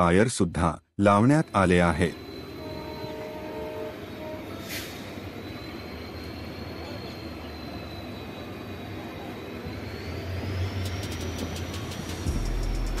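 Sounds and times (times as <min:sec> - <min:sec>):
faint high whine: 0:00.0 - 0:13.0
passenger train running noise: 0:00.0 - 0:13.0.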